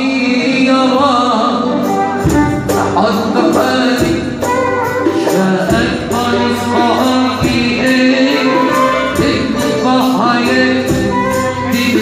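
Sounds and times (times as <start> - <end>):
violin melody: 1.2 - 12.0
drum and hand percussion beats: 1.7 - 12.0.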